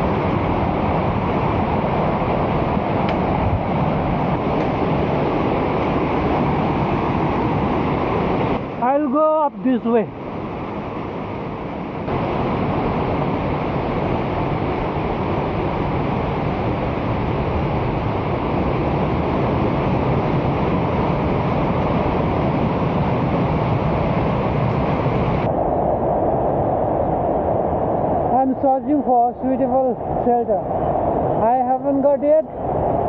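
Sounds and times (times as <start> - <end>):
river water roaring: 0.0 - 33.0.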